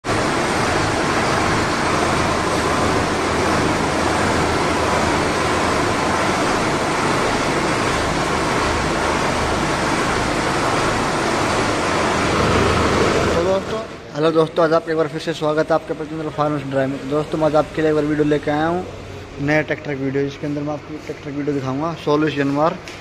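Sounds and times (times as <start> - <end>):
tractor diesel engine running: 0.0 - 14.1, 15.6 - 22.9.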